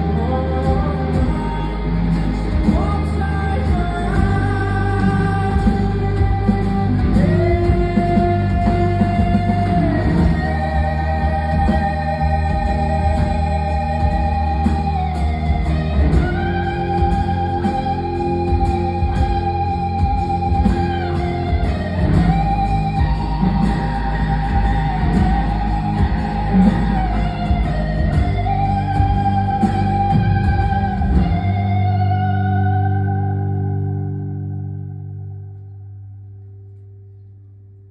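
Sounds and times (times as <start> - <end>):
sliding lead guitar notes: 0.0 - 37.2
steady bass: 0.0 - 37.9.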